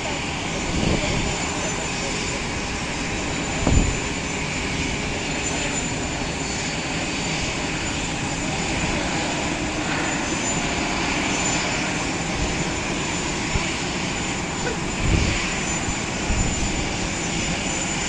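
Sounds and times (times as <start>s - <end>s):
aircraft turbine noise: 0.0s - 18.0s.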